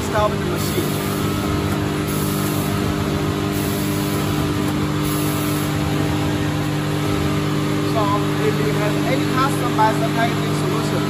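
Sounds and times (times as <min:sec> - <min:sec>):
packaging machinery humming: 0:00.0 - 0:11.0.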